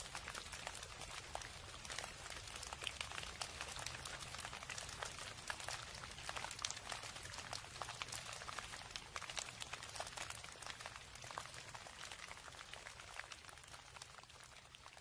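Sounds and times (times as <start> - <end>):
rain drops pattering: 0.0 - 15.0.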